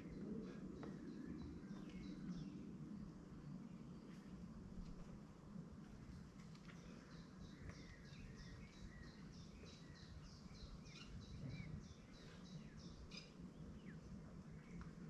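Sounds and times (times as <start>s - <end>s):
small bird singing: 0.0s - 4.3s, 6.6s - 15.0s
low outdoor rumble: 0.0s - 15.0s.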